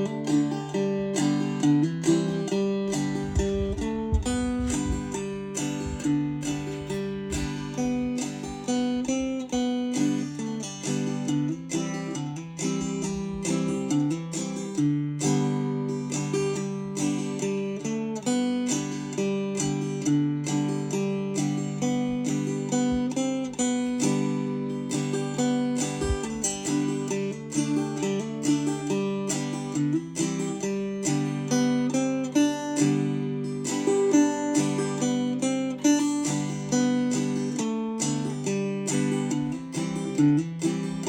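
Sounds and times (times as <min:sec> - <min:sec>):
banjo plucking and strumming: 0:00.0 - 0:41.0.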